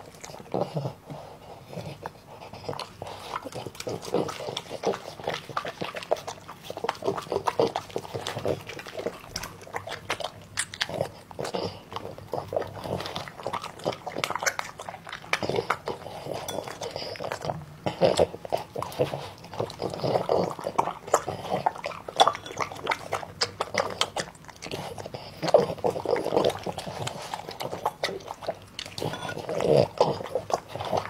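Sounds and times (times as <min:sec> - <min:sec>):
dog chewing wet food: 0:00.0 - 0:31.0.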